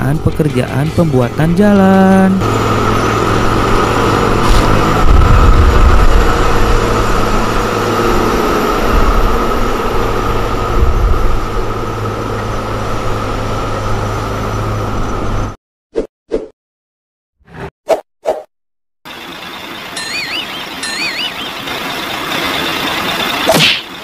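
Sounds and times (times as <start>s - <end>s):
diesel engine rumbling under load: 0.0s - 15.5s, 19.1s - 24.0s.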